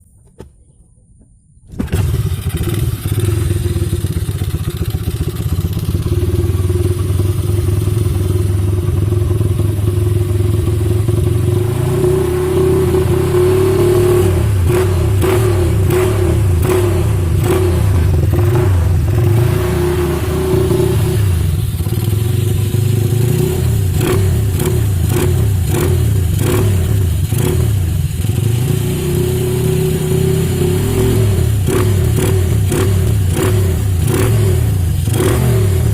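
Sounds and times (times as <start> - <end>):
motorcycle engine revving: 1.7 - 35.9.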